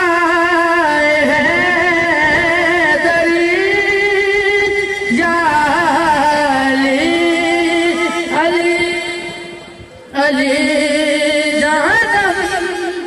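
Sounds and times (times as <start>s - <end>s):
man singing through a pa system: 0.0s - 13.0s.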